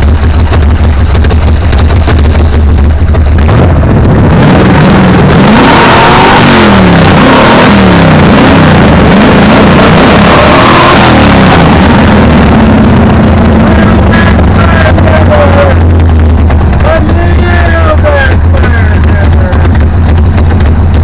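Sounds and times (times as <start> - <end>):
steady low drone: 0.0 - 5.6, 6.4 - 21.0
car engine revving: 0.0 - 21.0.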